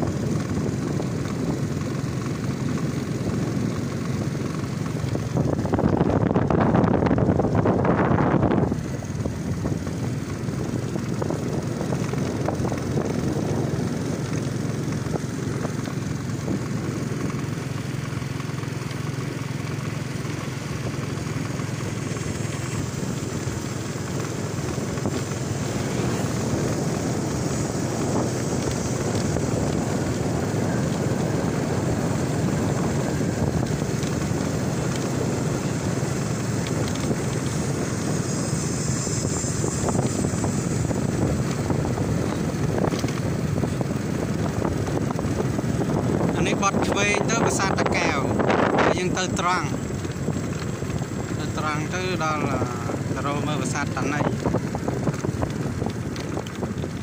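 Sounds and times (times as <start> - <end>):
road noise: 0.0 - 57.0
small motorcycle running: 0.0 - 57.0
wind buffeting microphone: 0.0 - 57.0.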